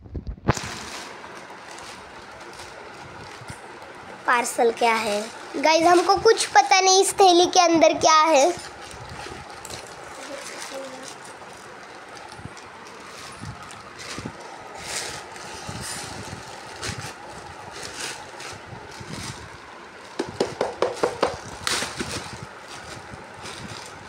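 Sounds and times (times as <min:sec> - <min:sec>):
plastic bags crinkling and rustling: 0:00.4 - 0:24.0.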